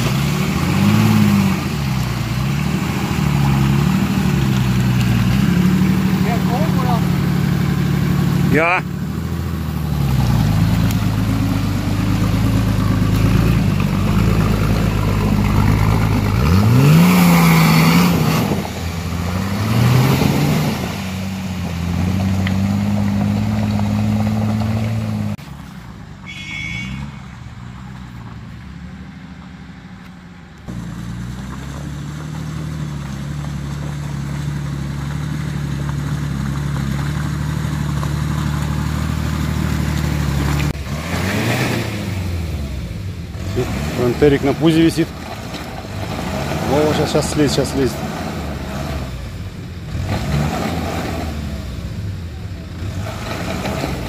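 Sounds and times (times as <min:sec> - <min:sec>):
off-road engine revving: 0:00.0 - 0:25.4, 0:30.6 - 0:54.0
truck engine labouring: 0:00.0 - 0:26.0, 0:30.6 - 0:54.0.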